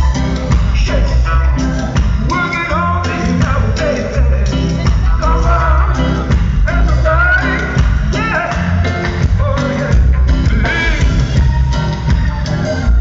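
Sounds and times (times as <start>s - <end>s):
bass line: 0.0s - 13.0s
drum kit: 0.0s - 13.0s
guitar: 0.0s - 13.0s
male singer singing: 0.4s - 11.4s.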